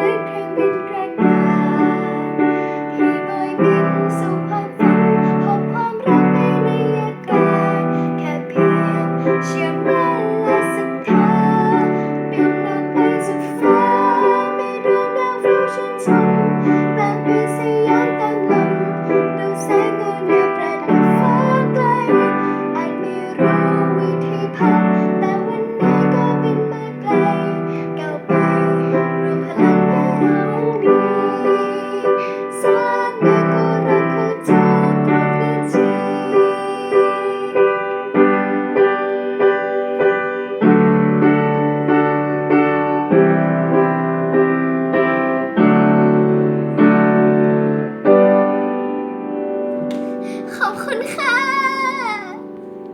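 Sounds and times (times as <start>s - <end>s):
woman singing: 0.0s - 42.1s, 49.9s - 52.9s
piano chords: 0.0s - 52.9s.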